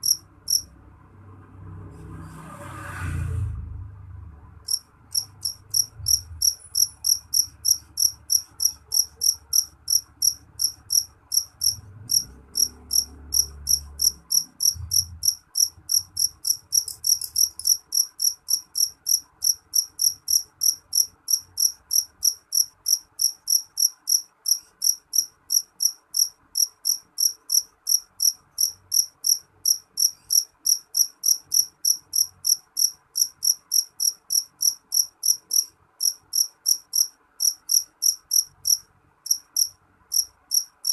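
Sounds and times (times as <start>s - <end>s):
cricket chirping shrilly: 0.0s - 0.7s, 4.7s - 40.9s.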